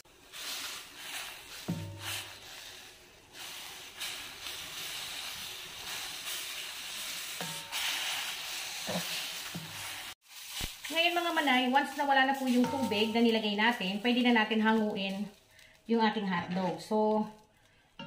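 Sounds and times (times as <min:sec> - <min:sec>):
water boiling in a pan: 0:00.0 - 0:18.0.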